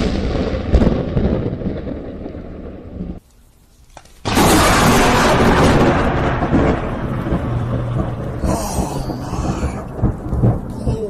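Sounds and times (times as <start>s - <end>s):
thunder crack and rumble: 0.0s - 3.2s, 4.2s - 11.0s.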